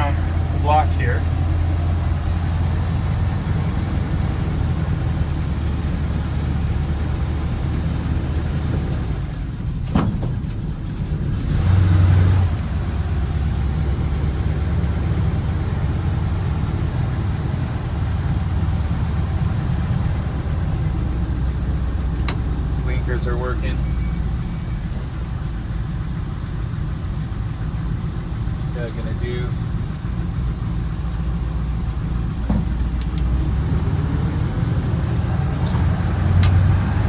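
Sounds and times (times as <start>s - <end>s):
engine revving: 0.0s - 37.0s
pickup engine running: 0.0s - 37.0s.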